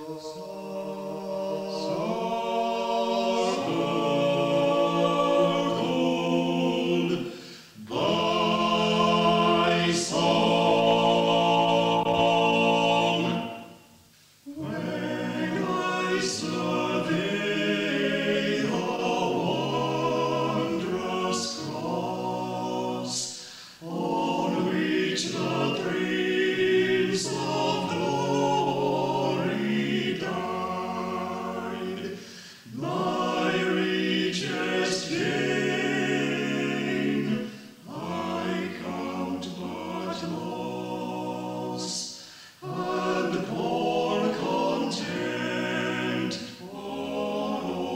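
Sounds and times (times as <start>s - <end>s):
choir singing unaccompanied: 0.0s - 47.9s.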